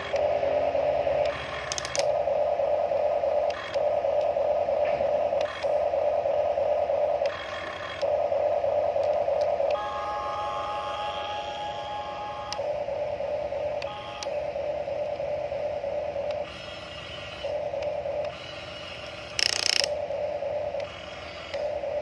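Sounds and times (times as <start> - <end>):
electric gear motors whining: 0.0 - 22.0.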